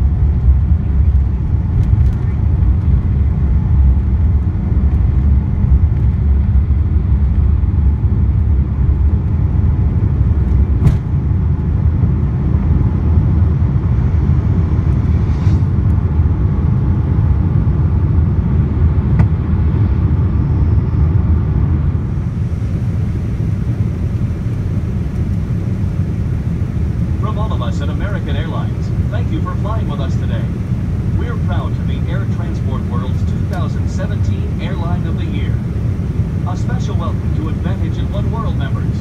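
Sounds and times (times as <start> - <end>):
airliner cabin rumble: 0.0 - 39.0.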